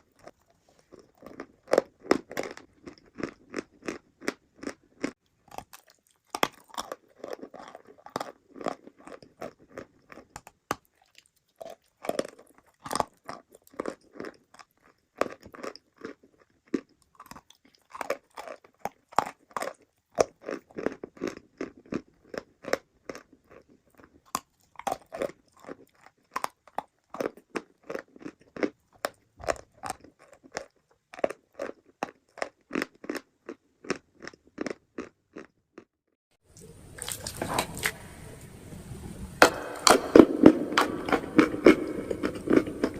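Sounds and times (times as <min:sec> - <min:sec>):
crunchy chewing close up: 0:00.0 - 0:35.9, 0:36.6 - 0:38.0, 0:39.6 - 0:42.9.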